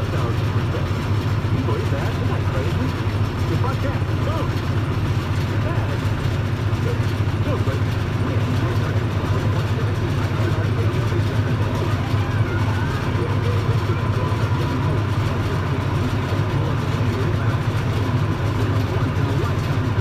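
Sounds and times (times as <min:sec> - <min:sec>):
baler machinery: 0:00.0 - 0:20.0
tractor diesel engine running: 0:00.0 - 0:20.0.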